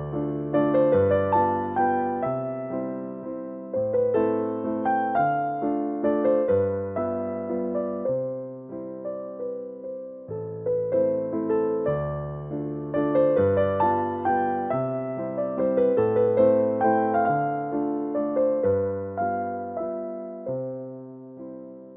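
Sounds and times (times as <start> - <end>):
gentle piano melody: 0.0 - 21.9.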